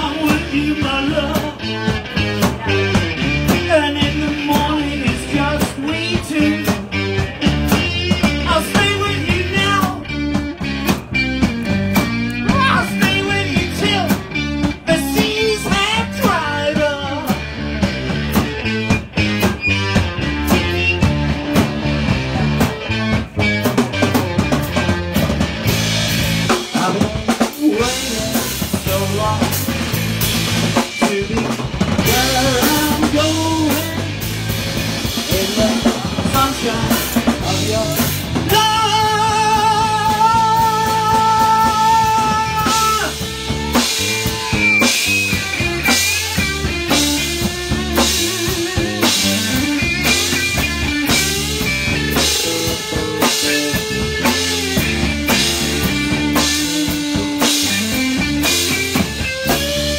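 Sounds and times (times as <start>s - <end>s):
drum kit: 0.0s - 59.9s
live rock band playing: 0.0s - 59.9s.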